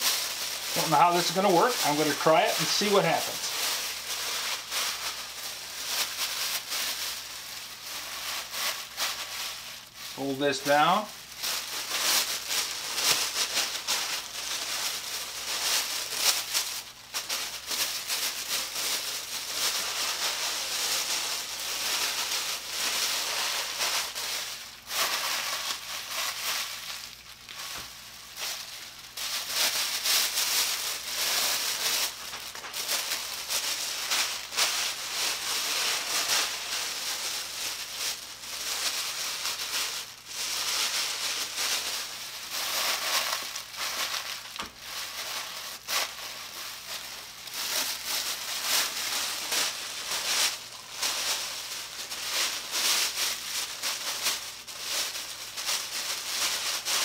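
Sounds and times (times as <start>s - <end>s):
plastic bags crinkling: 0.0s - 57.0s.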